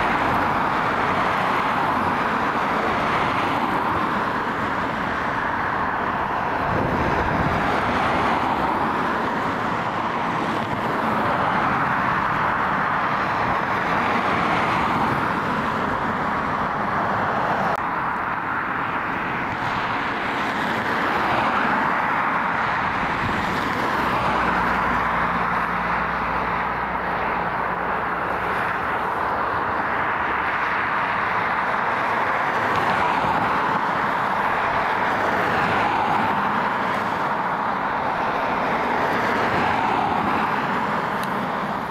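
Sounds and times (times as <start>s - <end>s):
jet engines at taxi power: 0.0s - 41.9s.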